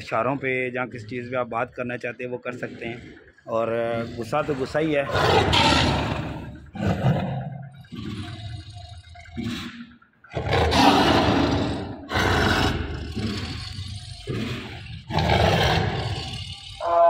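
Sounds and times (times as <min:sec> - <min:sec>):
tiger snarling: 0:02.0 - 0:17.0.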